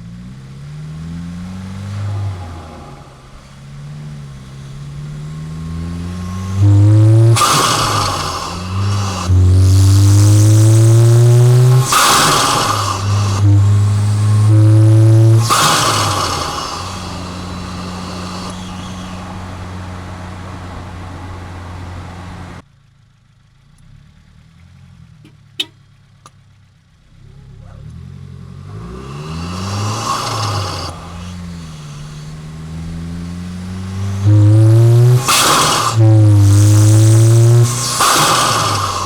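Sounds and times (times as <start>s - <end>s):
car engine revving: 0.0s - 22.6s, 26.9s - 39.0s.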